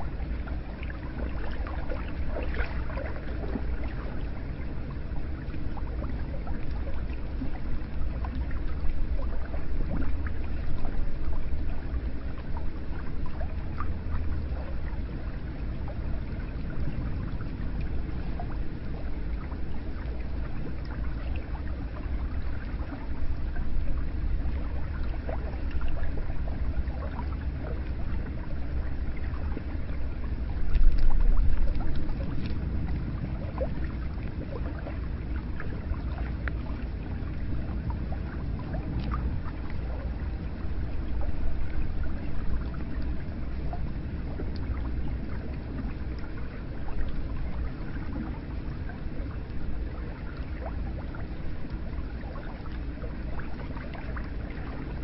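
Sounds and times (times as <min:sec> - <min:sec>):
water drips and plinks: 0:00.1 - 0:55.0.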